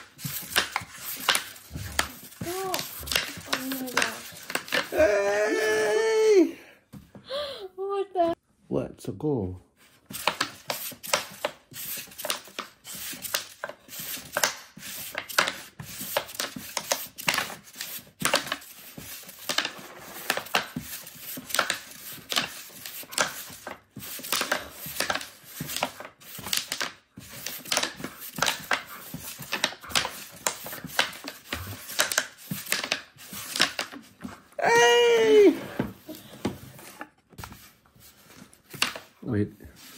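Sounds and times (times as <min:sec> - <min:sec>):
wooden discs clacking: 0:00.0 - 0:05.8, 0:10.1 - 0:39.2.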